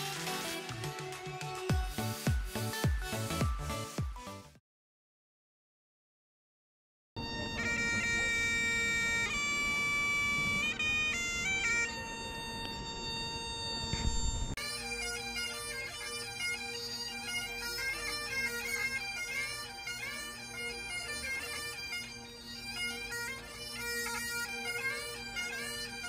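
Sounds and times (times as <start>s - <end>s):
bagpipes playing: 0.0s - 4.2s, 7.2s - 26.0s.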